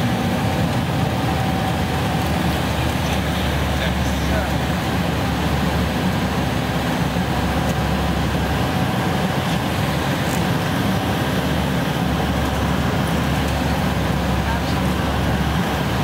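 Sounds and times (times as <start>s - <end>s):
airplane cabin engine hum: 0.0s - 16.0s.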